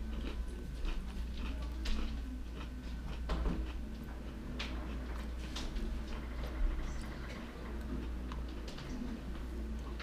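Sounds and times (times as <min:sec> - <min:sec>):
person chewing a cookie: 0:00.0 - 0:10.0.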